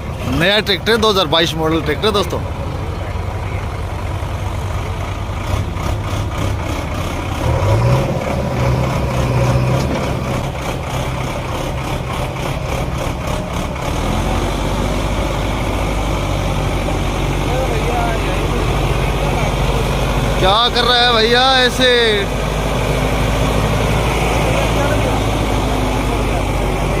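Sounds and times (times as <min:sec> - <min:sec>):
tractor diesel engine revving: 0:00.0 - 0:27.0.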